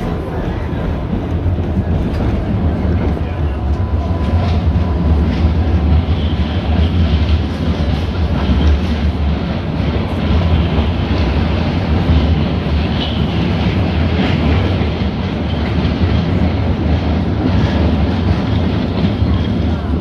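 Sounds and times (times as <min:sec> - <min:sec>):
streetcar wheels rumbling on rails: 0:00.0 - 0:20.0.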